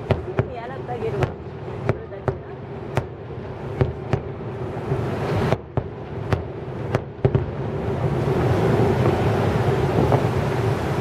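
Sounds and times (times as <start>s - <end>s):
fireworks bursting with sharp bangs: 0.0s - 11.0s
low background rumble: 0.0s - 11.0s.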